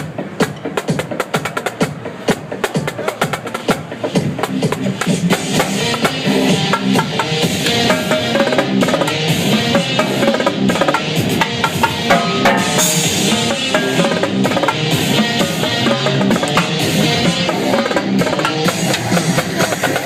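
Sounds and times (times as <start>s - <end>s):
electronic dance track: 0.0s - 20.0s
live drum strikes and rolls: 0.0s - 20.0s.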